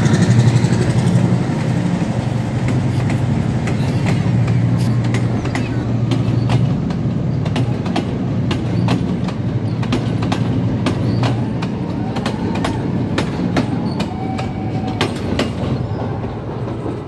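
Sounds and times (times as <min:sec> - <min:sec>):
train carriages rumbling past: 0:00.0 - 0:17.0
wheels clacking over rail joints: 0:00.0 - 0:17.0.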